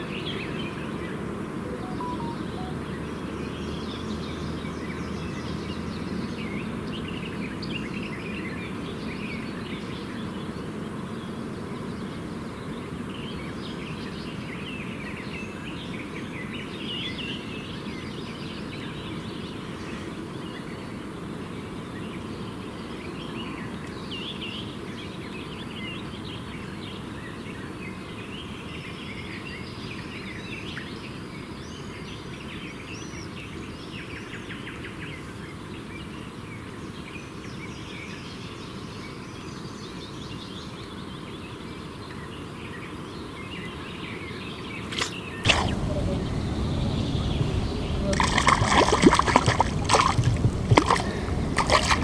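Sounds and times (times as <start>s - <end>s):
low background noise: 0.0s - 52.0s
wild birds chirping: 0.0s - 52.0s.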